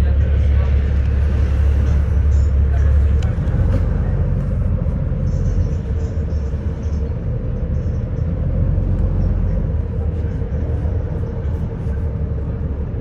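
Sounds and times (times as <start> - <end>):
bus engine and road rumble: 0.0 - 13.0
constant hum: 0.0 - 13.0.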